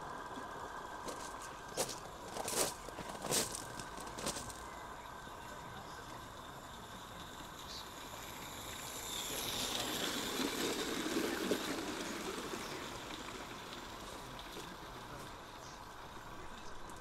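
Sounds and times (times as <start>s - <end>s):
model train running past: 0.0s - 17.0s.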